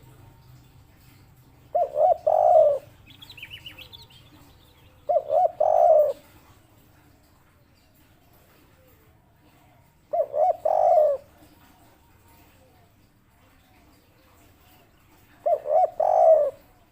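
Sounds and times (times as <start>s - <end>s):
dove cooing: 1.0s - 16.9s.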